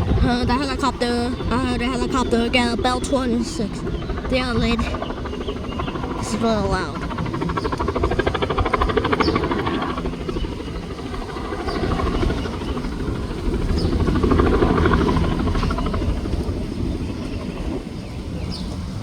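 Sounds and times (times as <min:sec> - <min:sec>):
turbine running: 0:00.0 - 0:18.9
helicopter rotor beating: 0:00.0 - 0:19.0.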